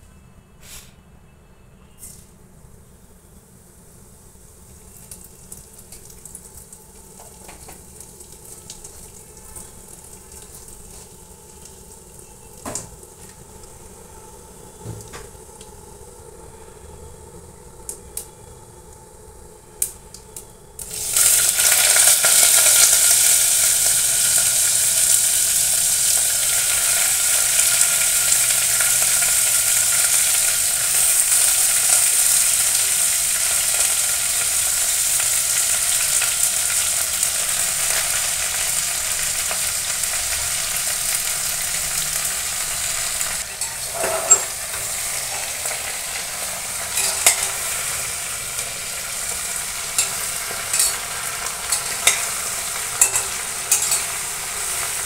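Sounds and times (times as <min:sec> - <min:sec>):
vegetables sizzling in hot oil: 0:03.3 - 0:16.1, 0:20.0 - 0:55.0.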